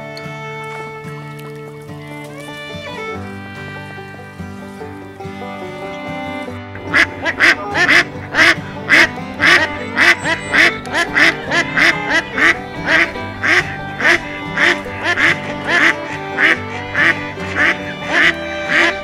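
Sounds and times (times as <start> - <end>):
background music: 0.0 - 19.0
duck quacking: 2.4 - 19.0.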